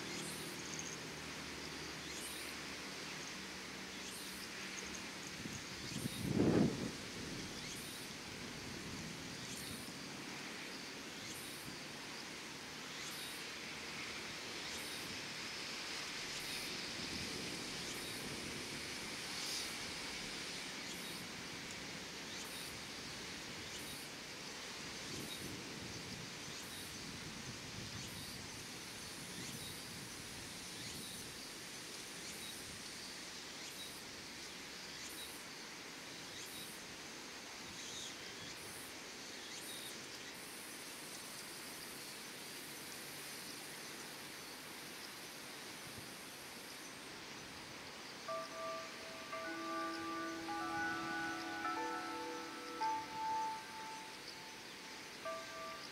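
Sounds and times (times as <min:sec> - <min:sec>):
steady even hiss: 0:00.0 - 0:55.9.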